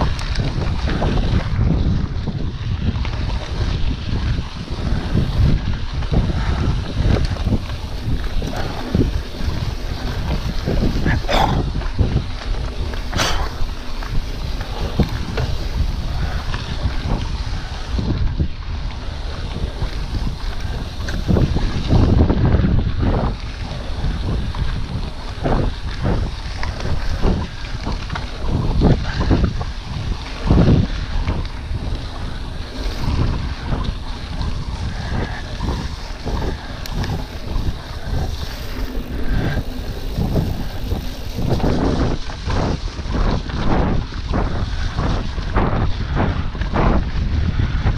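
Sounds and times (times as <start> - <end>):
bike tyres rolling on gravel: 0.0 - 47.9
wind noise on microphone: 0.0 - 47.9.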